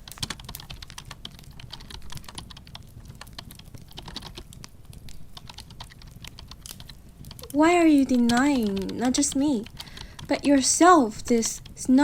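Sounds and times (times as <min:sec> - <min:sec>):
typing on computer keyboard: 0:00.0 - 0:10.4.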